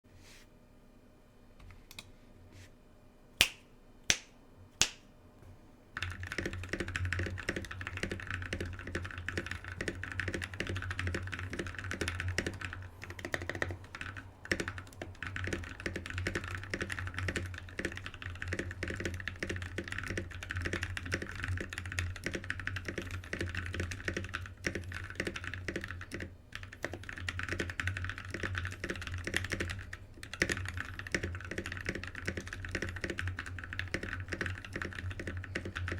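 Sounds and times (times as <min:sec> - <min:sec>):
fast typing on mechanical keyboard: 0:06.0 - 0:35.9.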